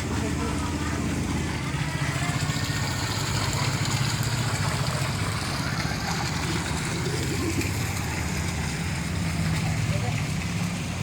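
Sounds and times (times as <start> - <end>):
waterfall pouring: 0.0 - 11.0.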